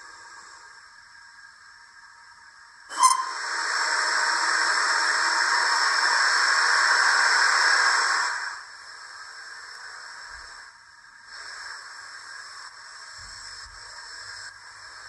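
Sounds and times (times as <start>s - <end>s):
faint hiss: 0.0s - 15.0s
steam locomotive hiss: 0.0s - 15.0s.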